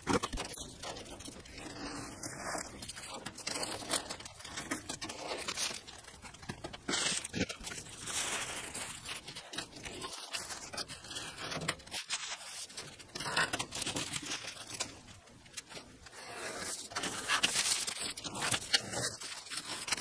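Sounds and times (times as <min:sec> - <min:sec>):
plastic film crinkling and tearing: 0:00.0 - 0:20.0.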